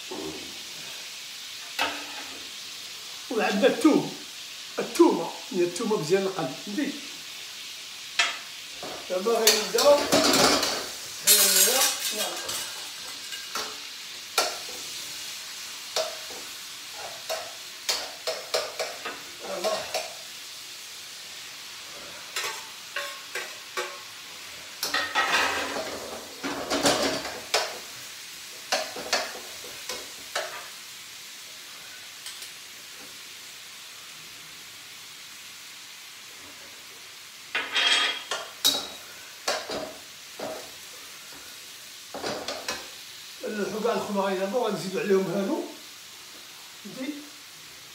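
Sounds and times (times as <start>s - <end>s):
food sizzling in wok: 0.0s - 47.9s.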